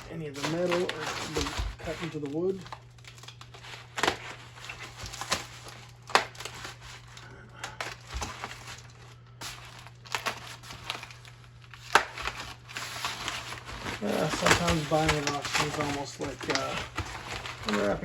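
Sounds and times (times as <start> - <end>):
packing material cut and crumpled: 0.0 - 18.0
steady low hum: 0.0 - 18.0.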